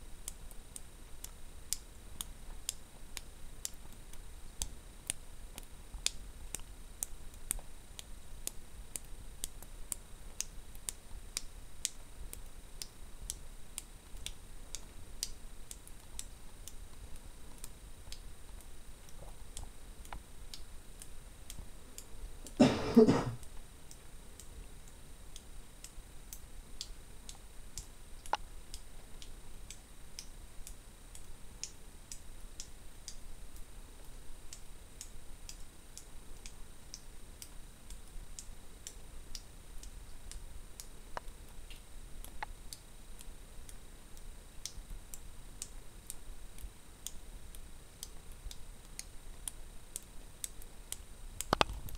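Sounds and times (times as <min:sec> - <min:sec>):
faint high clicks and ticks: 0:00.0 - 0:22.6, 0:23.4 - 0:51.9
faint high-pitched hiss: 0:00.0 - 0:51.9.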